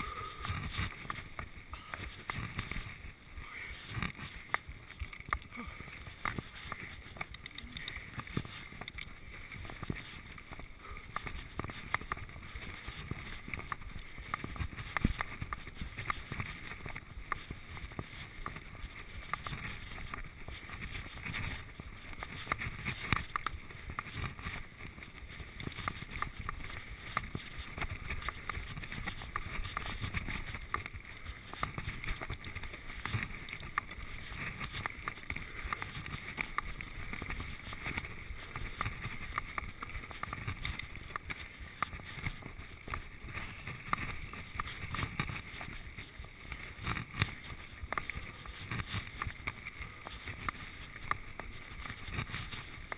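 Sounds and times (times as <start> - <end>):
bike tyres rumbling on dirt: 0.0 - 52.9.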